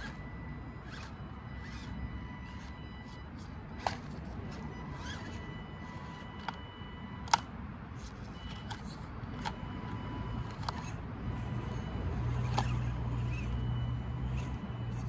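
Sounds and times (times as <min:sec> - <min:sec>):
small electric motor whine: 0:00.0 - 0:15.0.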